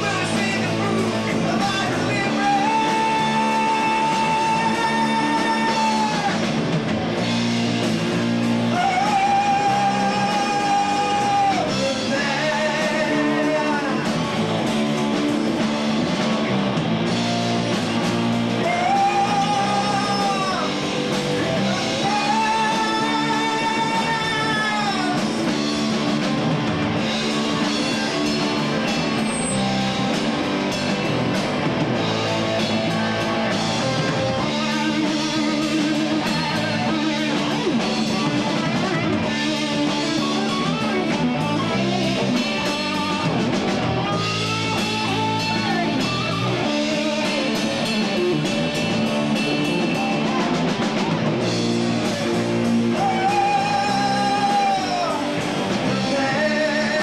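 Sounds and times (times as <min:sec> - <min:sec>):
drum kit: 0:00.0 - 0:57.0
electric bass: 0:00.0 - 0:57.0
electric guitar lines: 0:00.0 - 0:57.0.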